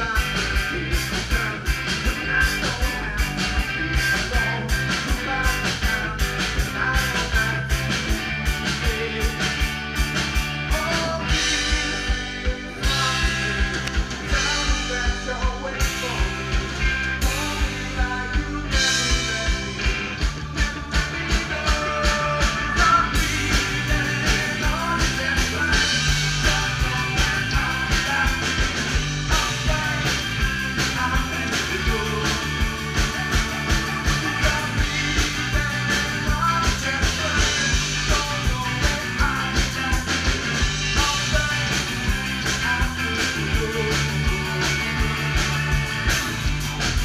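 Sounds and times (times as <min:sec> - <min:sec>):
drum kit beat: 0:00.0 - 0:47.0
rock band playing live: 0:00.0 - 0:47.0.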